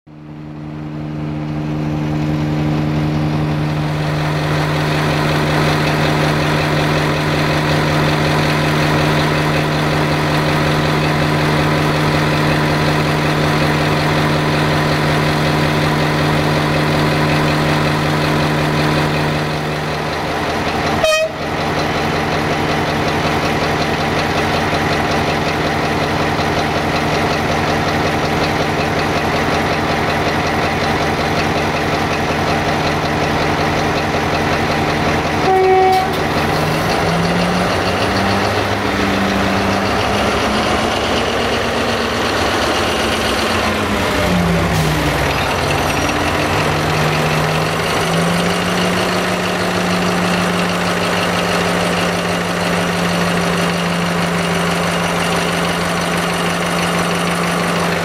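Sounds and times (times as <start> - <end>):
diesel engine idling: 0.1 - 58.0.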